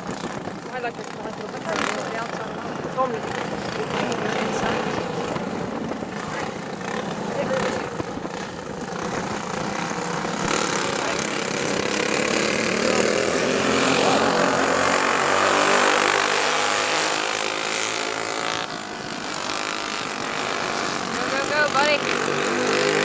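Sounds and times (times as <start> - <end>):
go-kart engines revving: 0.0 - 23.0.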